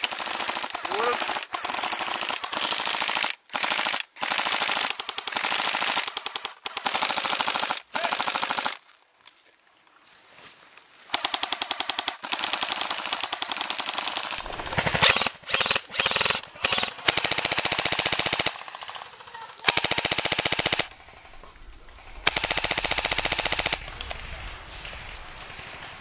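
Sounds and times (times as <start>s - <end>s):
airsoft rifles firing full auto: 0.0s - 8.8s, 11.1s - 26.0s.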